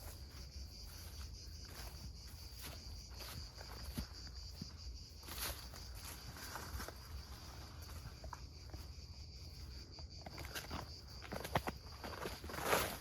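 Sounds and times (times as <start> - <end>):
footsteps on forest floor: 0.0 - 9.0, 10.2 - 13.0
insects trilling: 0.0 - 13.0.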